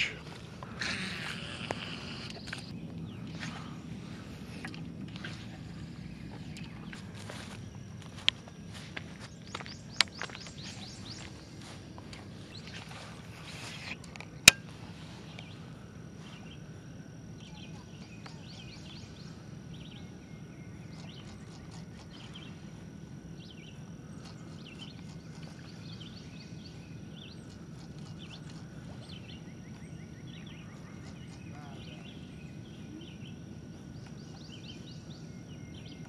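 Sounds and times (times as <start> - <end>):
birds chirping: 0.0 - 36.0
outdoor background noise: 0.0 - 36.0.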